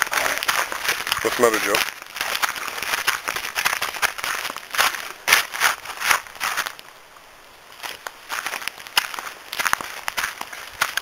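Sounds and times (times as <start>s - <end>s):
light foot scuffs: 0.0s - 6.9s, 7.7s - 11.0s
footsteps crunching on gravel: 0.0s - 11.0s.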